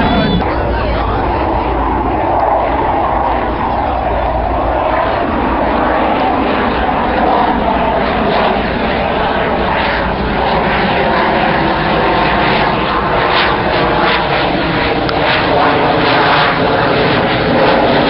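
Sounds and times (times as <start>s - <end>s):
aircraft engine rushing: 0.0s - 18.0s.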